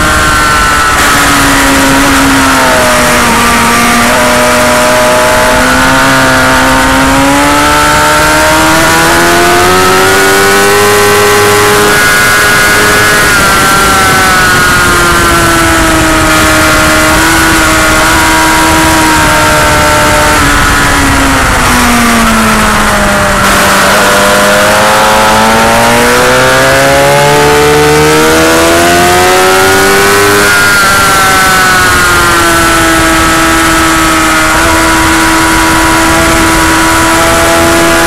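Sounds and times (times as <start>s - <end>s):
motorcycle engine revving: 0.0s - 38.0s
steady rush of noise: 0.0s - 38.0s.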